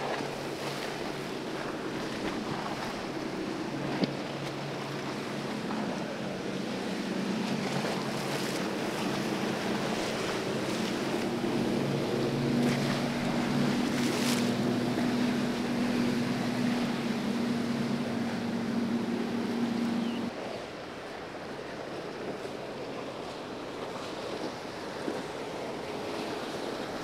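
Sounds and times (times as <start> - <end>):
hulls cutting through choppy water: 0.0 - 27.0
outboard motors droning: 0.0 - 27.0
water splashes: 0.0 - 27.0.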